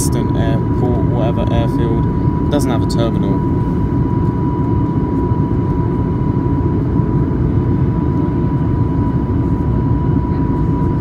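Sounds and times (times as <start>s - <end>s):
aircraft cabin rumble: 0.0s - 11.0s
thin steady whine: 0.0s - 11.0s.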